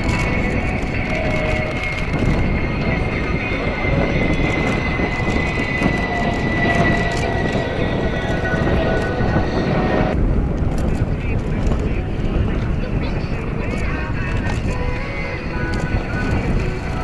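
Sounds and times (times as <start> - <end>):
jet engine whine and rumble: 0.0 - 17.0.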